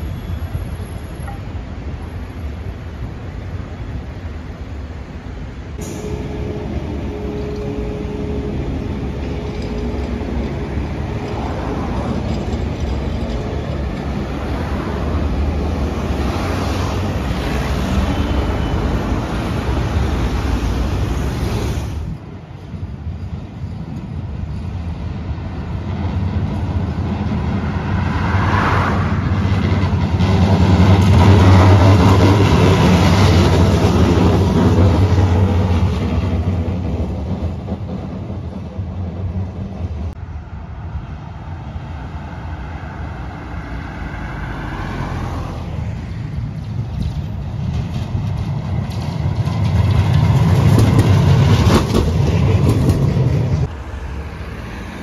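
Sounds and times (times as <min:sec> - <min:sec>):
city traffic: 0:00.0 - 0:55.0
tram wheels rumbling on rails: 0:00.0 - 0:55.0.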